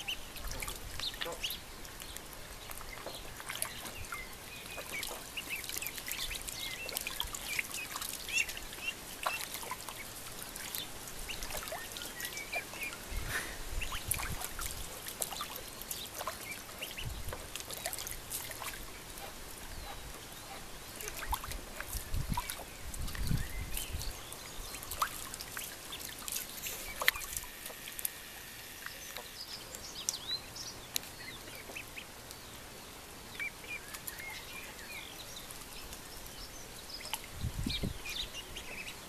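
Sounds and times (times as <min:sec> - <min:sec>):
water dripping and trickling: 0:00.0 - 0:28.1, 0:28.8 - 0:39.0
ducklings peeping: 0:00.0 - 0:39.0
ducklings splashing in water: 0:00.0 - 0:39.0.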